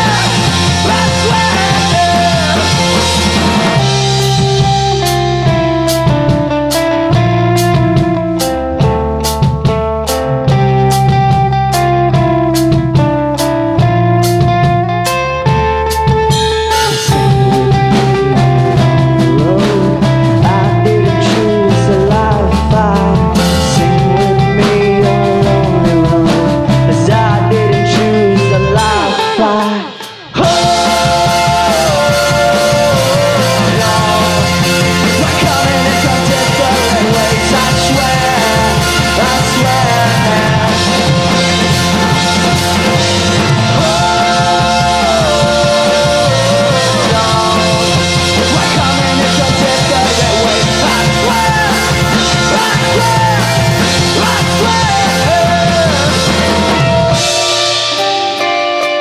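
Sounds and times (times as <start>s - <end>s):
person singing: 0.0s - 6.1s, 16.4s - 59.0s
bass guitar: 0.0s - 59.0s
drums: 0.0s - 59.0s
electric guitar: 0.0s - 59.0s.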